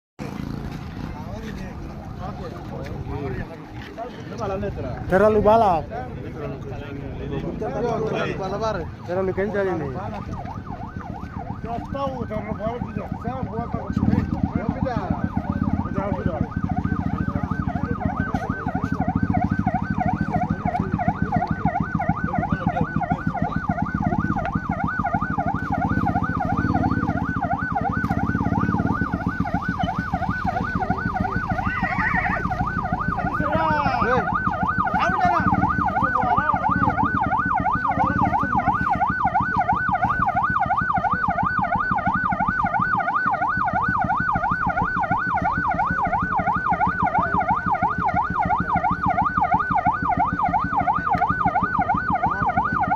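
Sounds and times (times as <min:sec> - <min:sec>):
gliding siren tone: 0:00.3 - 0:52.9
siren yelping: 0:00.4 - 0:52.9.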